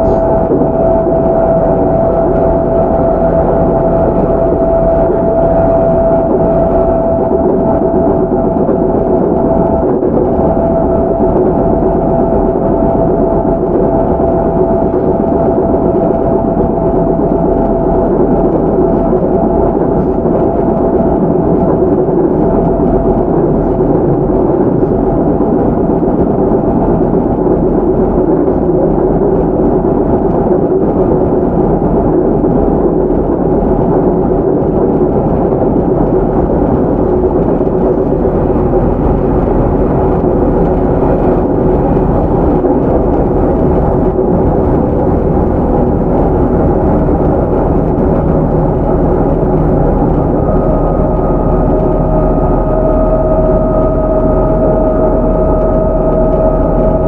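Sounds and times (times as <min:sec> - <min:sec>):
traction motor whine: 0:00.0 - 0:57.0
train wheels rumbling on rail: 0:00.0 - 0:57.0.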